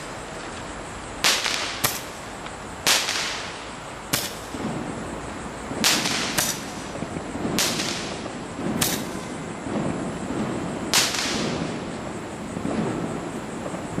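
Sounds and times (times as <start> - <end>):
fireworks cracking: 0.0 - 14.0
low fireworks thumps: 0.0 - 14.0.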